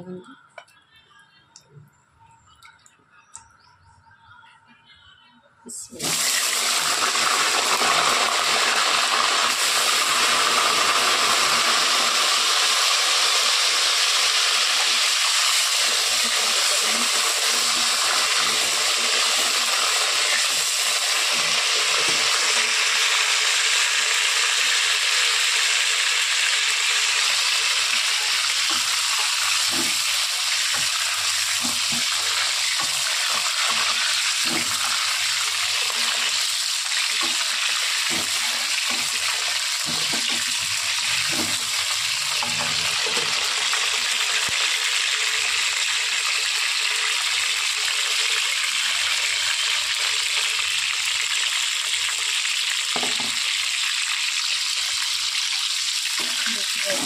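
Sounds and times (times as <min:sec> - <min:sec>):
eggplants sizzling in oil: 0:06.0 - 0:57.0.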